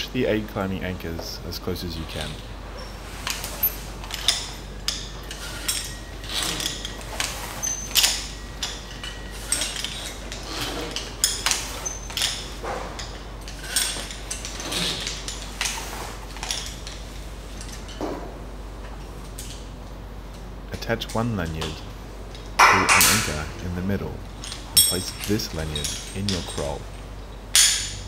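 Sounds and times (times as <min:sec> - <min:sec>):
metal karabiners clinking: 0:02.0 - 0:18.2, 0:18.8 - 0:28.0.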